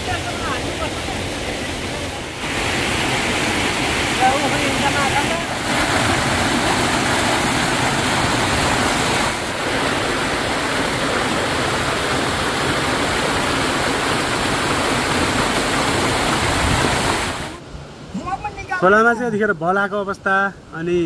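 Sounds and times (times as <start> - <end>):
river rushing: 0.0 - 19.6.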